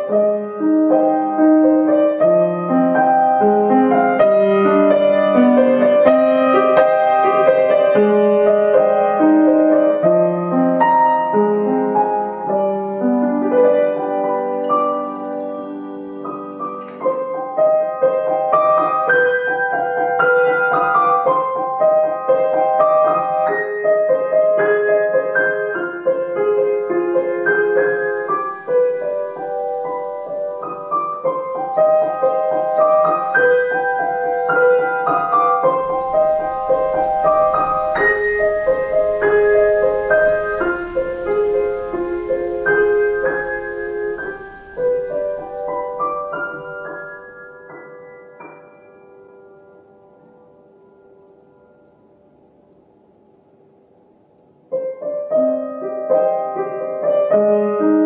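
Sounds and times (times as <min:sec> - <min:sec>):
gentle piano music: 0:00.0 - 0:53.8, 0:54.4 - 0:58.0.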